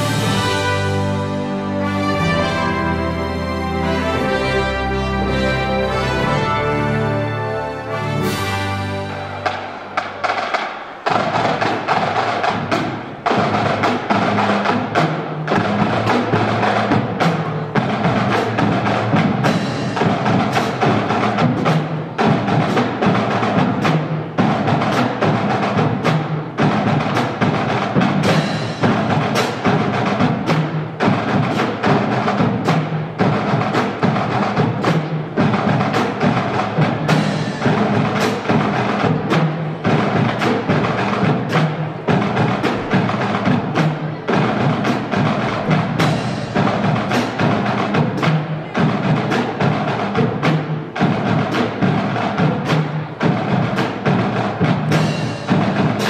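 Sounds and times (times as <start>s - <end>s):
marching drum line: 0.0s - 56.0s.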